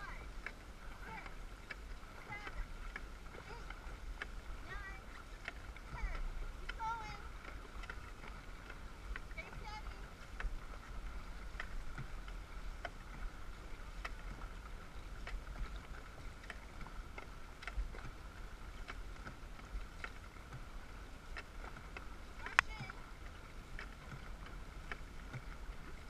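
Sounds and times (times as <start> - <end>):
paddles splashing in water: 0.0 - 26.0.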